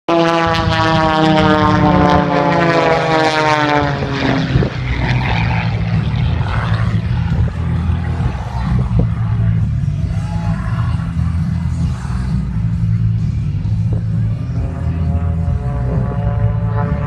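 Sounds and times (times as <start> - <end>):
propeller airplane flying past: 0.1 - 17.0.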